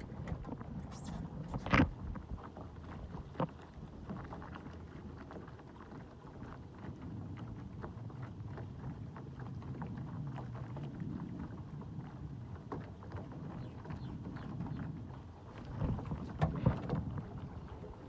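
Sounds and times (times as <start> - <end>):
water splashing against hull: 0.0 - 18.0
wind rumble on microphone: 0.0 - 18.0.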